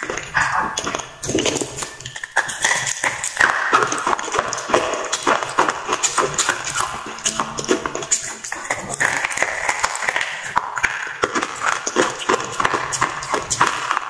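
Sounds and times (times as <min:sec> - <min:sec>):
crunchy biting and chewing: 0:00.0 - 0:14.0.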